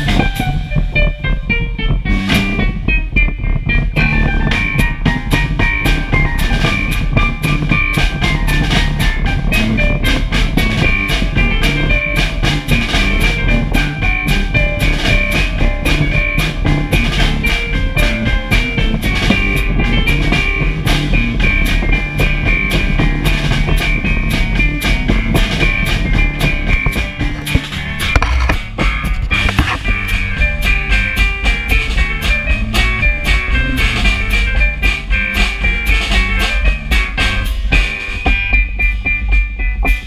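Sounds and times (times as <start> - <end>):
electric keyboard: 0.0 - 40.0
live rock band playing: 0.0 - 40.0.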